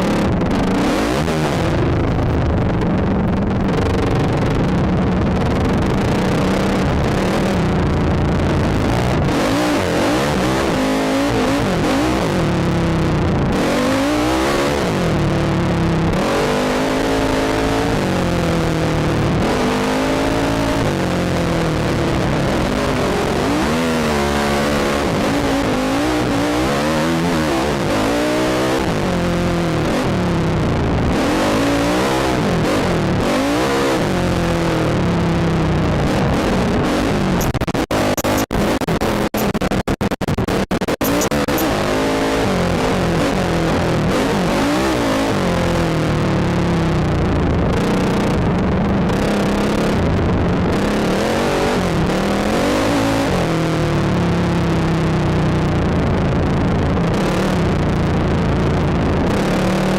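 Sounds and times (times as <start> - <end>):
quad engine revving: 0.0 - 3.0, 5.3 - 39.8, 40.5 - 55.8.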